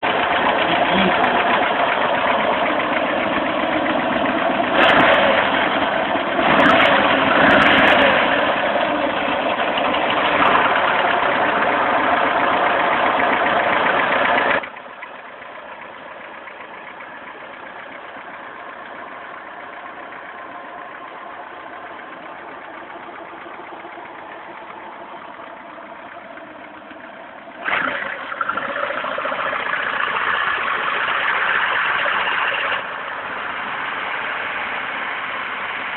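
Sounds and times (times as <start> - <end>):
petrol engine knocking: 0.0 - 35.9.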